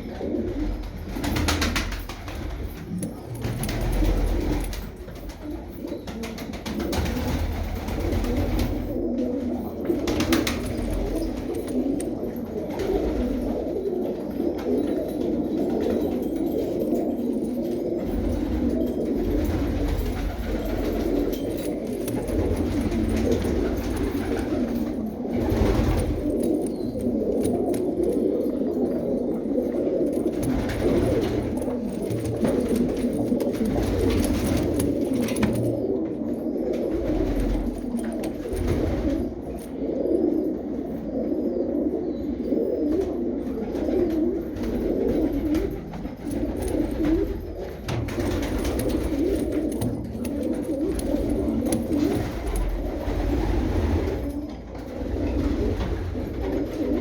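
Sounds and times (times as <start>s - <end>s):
pigeons cooing: 0.0s - 57.0s.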